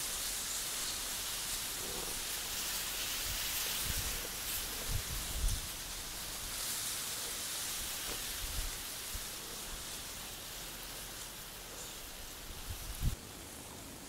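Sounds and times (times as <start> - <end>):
wind rustling through dry reeds: 0.0 - 14.0.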